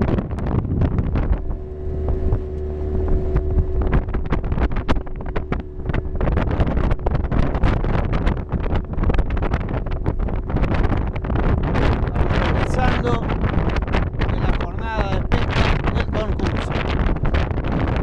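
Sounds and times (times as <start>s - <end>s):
steady hum: 0.0s - 18.0s
wind buffeting microphone: 0.0s - 18.0s.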